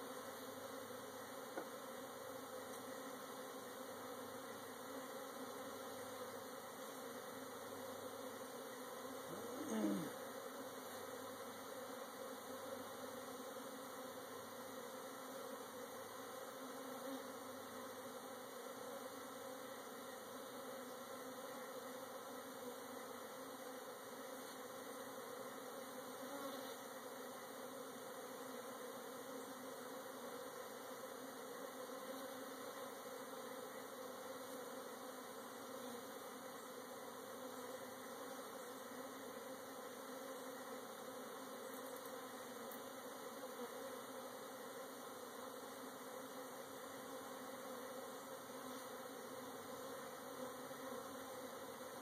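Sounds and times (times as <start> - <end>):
honey bees humming: 0.0 - 52.0.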